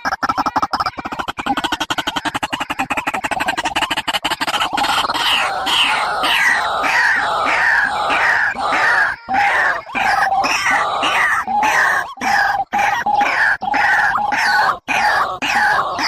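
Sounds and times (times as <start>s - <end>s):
bird calling harshly: 0.0s - 16.0s.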